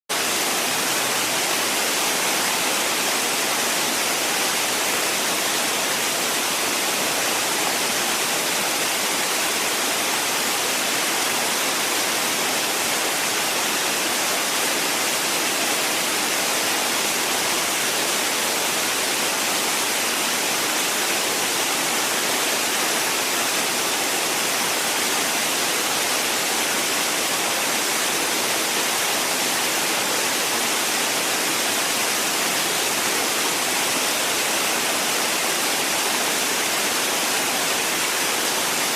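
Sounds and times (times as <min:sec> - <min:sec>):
indoor waterfall splashing: 0:00.1 - 0:38.9.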